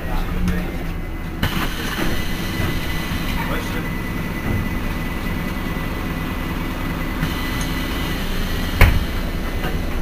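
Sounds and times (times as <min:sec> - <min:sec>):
bus engine hum from inside: 0:00.0 - 0:10.0.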